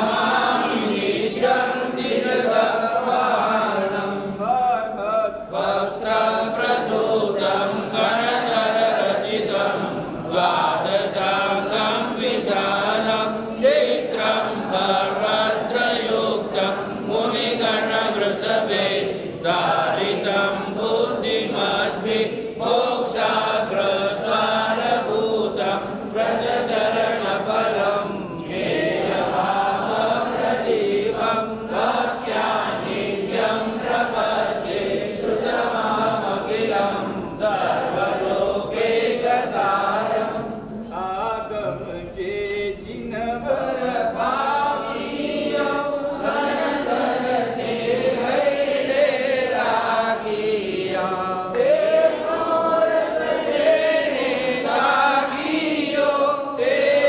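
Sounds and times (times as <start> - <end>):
voices chanting a mantra: 0.0 - 57.0.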